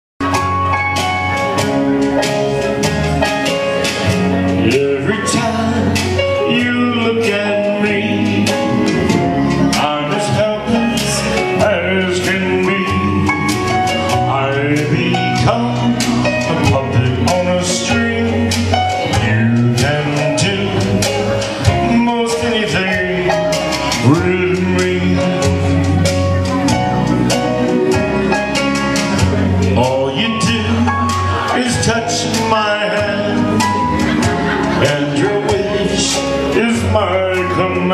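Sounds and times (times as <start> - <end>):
backing track with guitar and beat: 0.2 - 37.9
man singing into microphone: 3.4 - 37.9.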